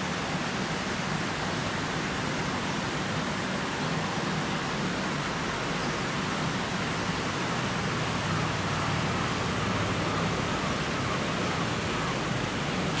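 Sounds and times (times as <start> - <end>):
water flowing down canal: 0.0 - 13.0.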